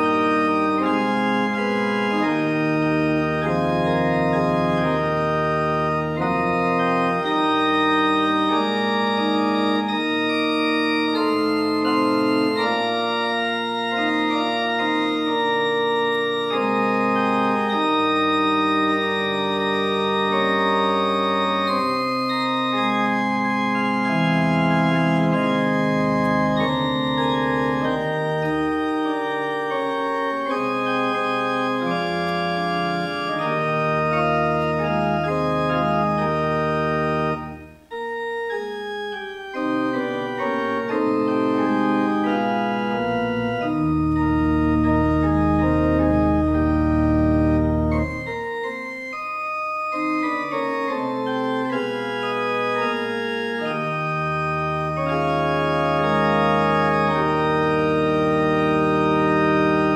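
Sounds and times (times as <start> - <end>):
organ playing held chords: 0.0 - 59.9.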